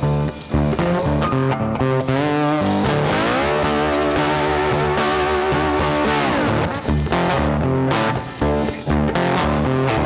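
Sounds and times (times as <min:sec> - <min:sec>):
electric guitar riff: 0:00.5 - 0:10.0.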